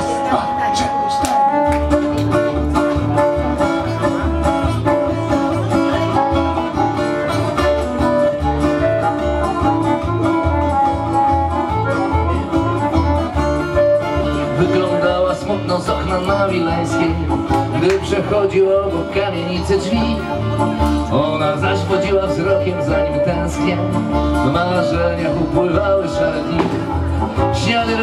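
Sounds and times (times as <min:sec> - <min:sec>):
accordion melody: 0:00.0 - 0:28.0
guitar playing: 0:00.0 - 0:28.0.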